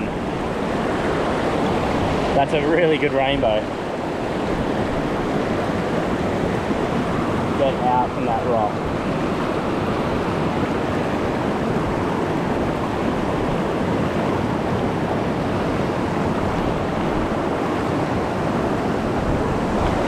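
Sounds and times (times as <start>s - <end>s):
mountain stream rushing: 0.0s - 20.0s.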